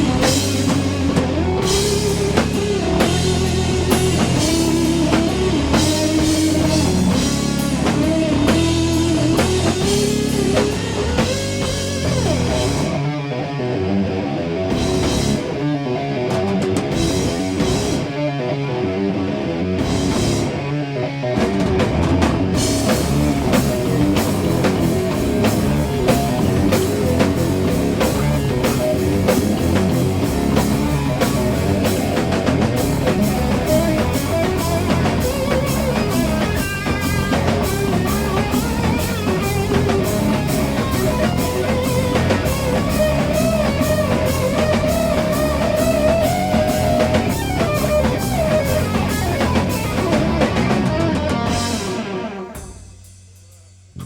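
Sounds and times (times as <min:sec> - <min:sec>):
doom metal band playing: 0:00.0 - 0:54.0.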